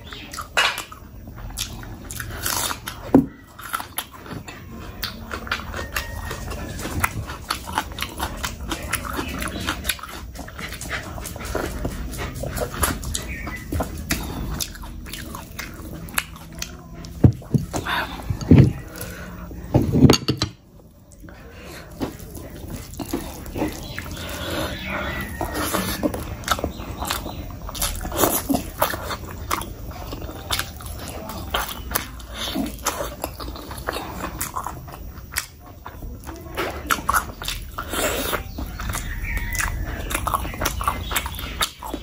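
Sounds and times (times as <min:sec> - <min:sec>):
wet chewing and lip smacks: 0:00.0 - 0:19.7, 0:20.8 - 0:42.0.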